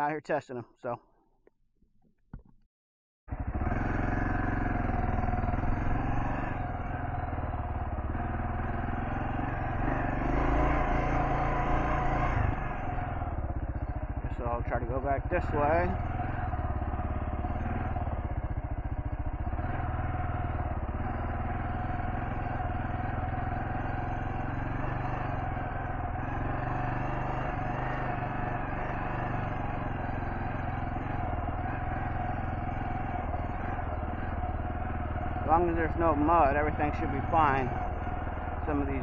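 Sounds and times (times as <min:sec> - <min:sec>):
motorcycle engine running: 0:03.3 - 0:39.0.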